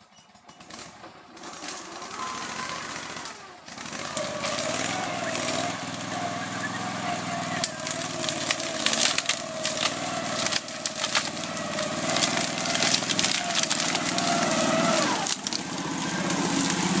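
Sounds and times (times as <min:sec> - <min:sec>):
atv engine running under load: 0:00.3 - 0:17.0
branches cracking and snapping: 0:00.6 - 0:17.0.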